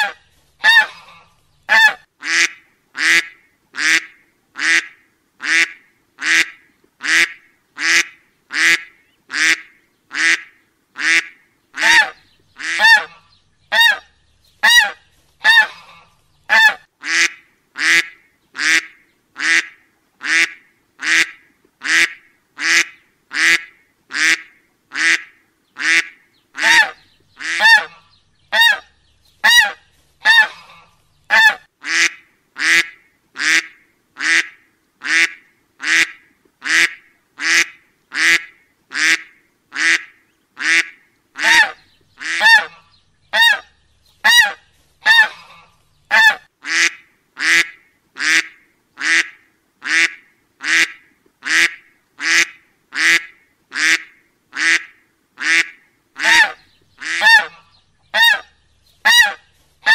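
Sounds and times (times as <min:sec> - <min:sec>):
duck quacking: 0:00.0 - 0:59.9.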